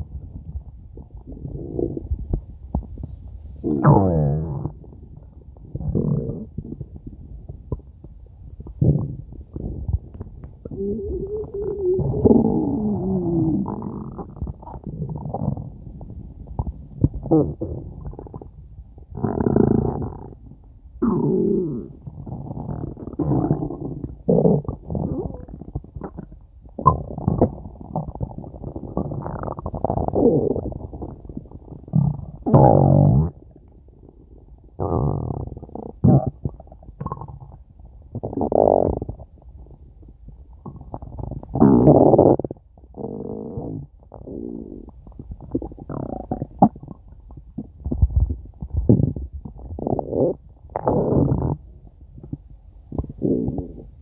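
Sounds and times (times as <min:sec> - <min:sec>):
stomach growling: 0:00.0 - 0:54.0.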